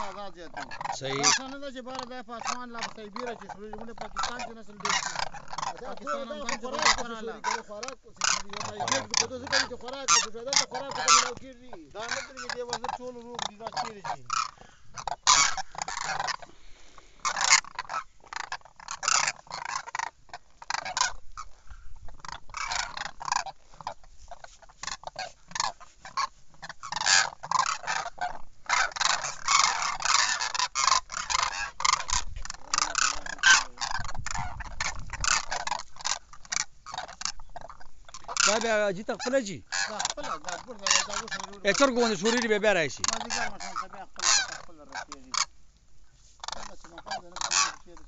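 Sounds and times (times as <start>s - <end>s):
cranes calling: 0.0s - 48.0s.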